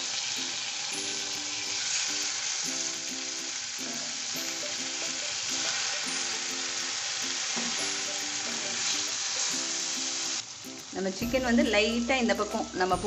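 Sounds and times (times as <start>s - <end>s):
chicken sizzling in a skillet: 0.0s - 11.6s.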